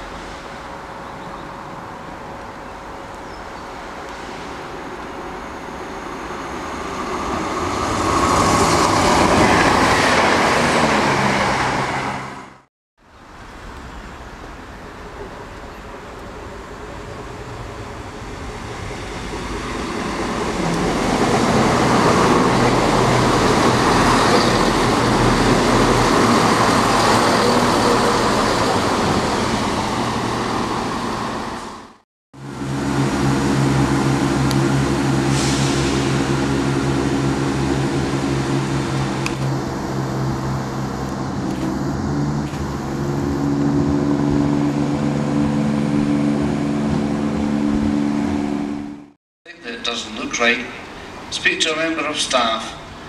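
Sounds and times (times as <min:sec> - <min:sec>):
diesel engines humming: 0:00.0 - 0:53.0
train passing: 0:00.0 - 0:53.0.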